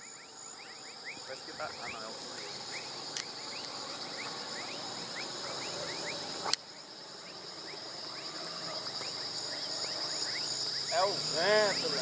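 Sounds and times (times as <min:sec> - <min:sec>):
high-pitched insect chorus: 0:00.0 - 0:12.0
short rising insect chirps: 0:00.0 - 0:12.0.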